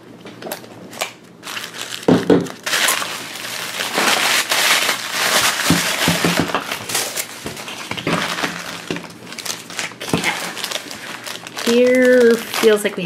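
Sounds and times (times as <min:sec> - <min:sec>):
plastic wrapper pulled open: 0:00.5 - 0:13.0
tissue paper crinkling: 0:00.9 - 0:13.0.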